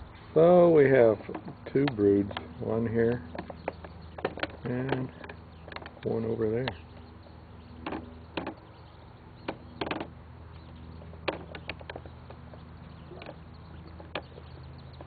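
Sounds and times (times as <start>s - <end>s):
ducklings peeping: 0.0s - 15.0s
steady low hum: 0.0s - 15.0s.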